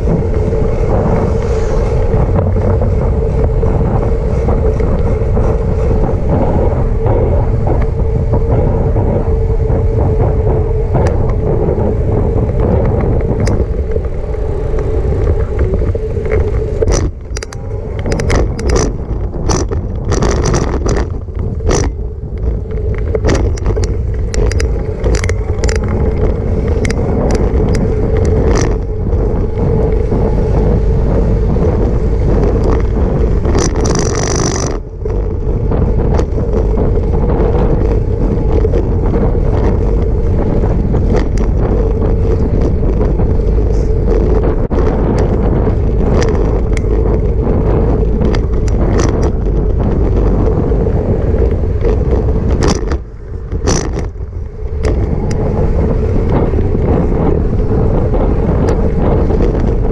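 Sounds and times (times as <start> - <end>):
bike clicks and rattles: 0.0 - 59.9
tyres rumbling on path: 0.0 - 59.9
wind buffeting microphone: 0.0 - 59.9.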